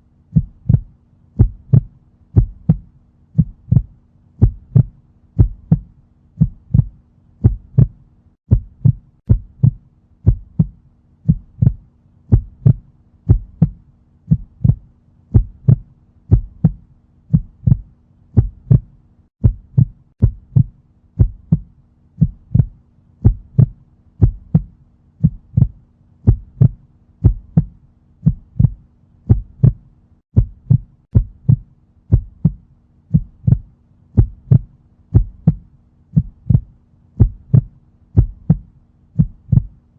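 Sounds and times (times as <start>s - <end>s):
heartbeat thumps: 0.3s - 39.8s.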